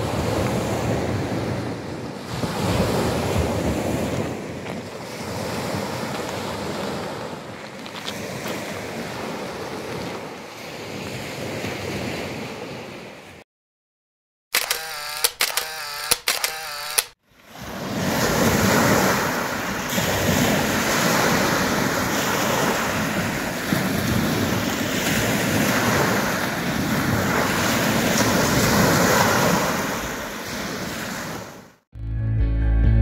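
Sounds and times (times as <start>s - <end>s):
waves lapping on pebble shore: 0.0s - 12.9s, 17.4s - 31.6s.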